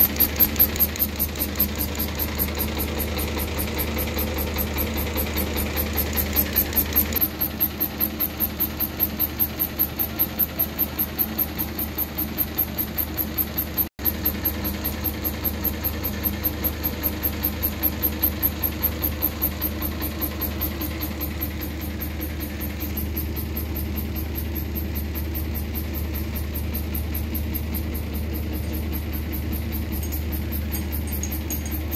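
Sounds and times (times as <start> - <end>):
machine humming and knocking: 0.0 - 31.9.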